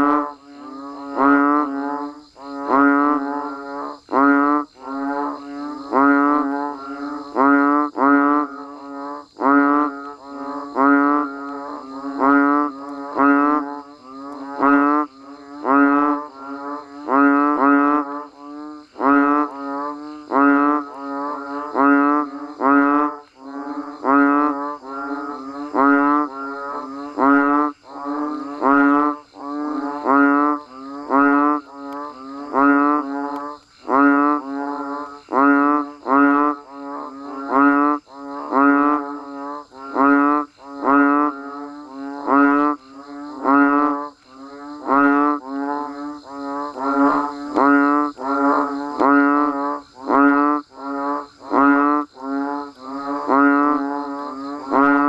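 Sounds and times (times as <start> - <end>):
frogs calling: 0.0 - 55.0.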